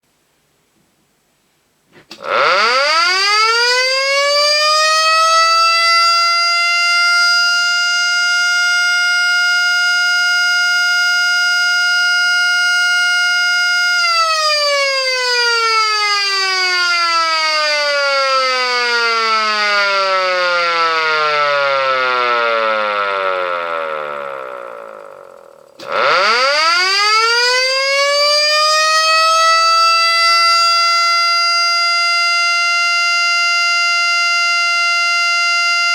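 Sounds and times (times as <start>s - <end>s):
electric motor siren wailing: 2.1s - 35.9s.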